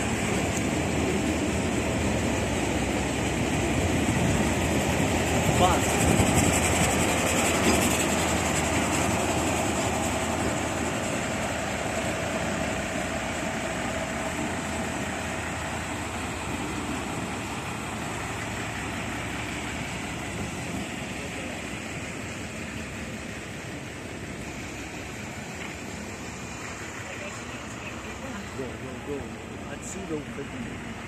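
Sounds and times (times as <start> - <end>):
diesel locomotive engine running: 0.0 - 31.0.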